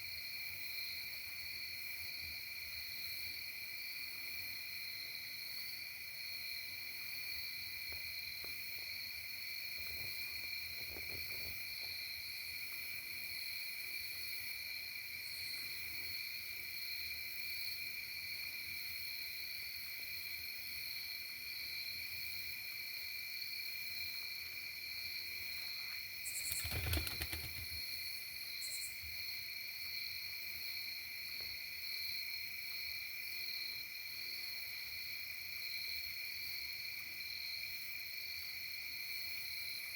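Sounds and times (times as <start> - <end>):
insect chorus trilling: 2.8 - 39.9.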